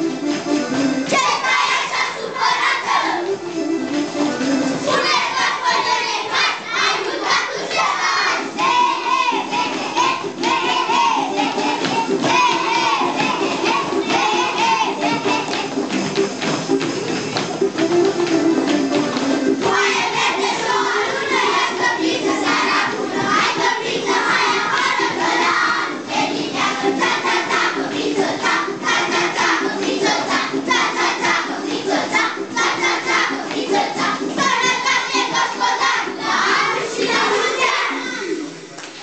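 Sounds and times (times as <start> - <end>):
children singing and shouting: 0.0 - 39.0.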